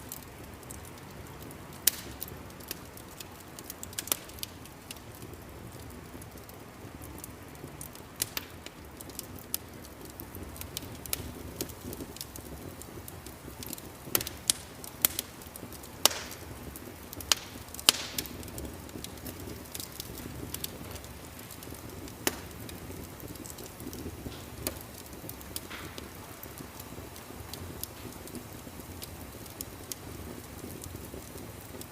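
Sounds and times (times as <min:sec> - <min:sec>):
wood fire crackling and popping: 0:00.0 - 0:31.9.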